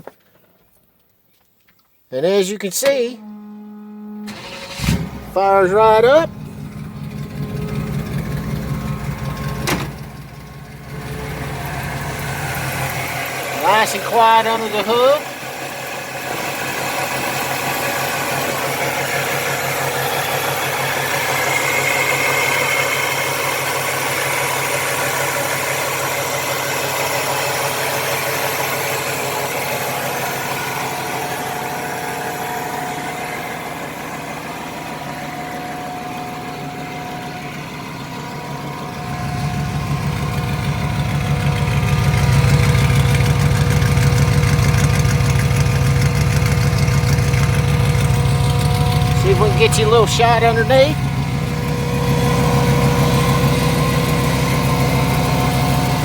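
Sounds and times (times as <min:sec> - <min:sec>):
car engine idling: 0:03.2 - 0:56.0.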